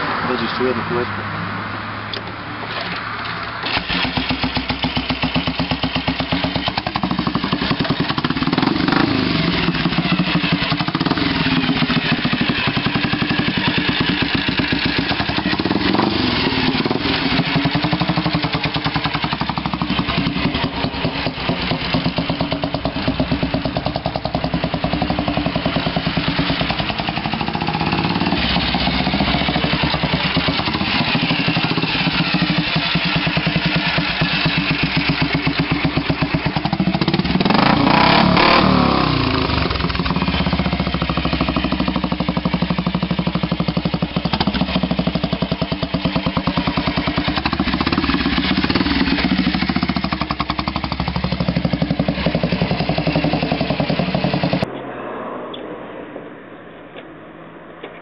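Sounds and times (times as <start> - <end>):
motorcycle engine revving: 3.6 - 54.8.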